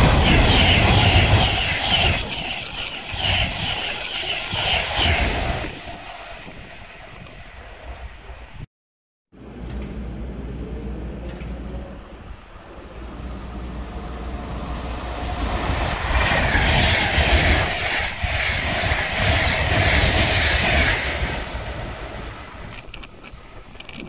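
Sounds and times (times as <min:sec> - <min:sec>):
train wheels rushing on rail: 0:00.0 - 0:08.5, 0:11.2 - 0:24.0.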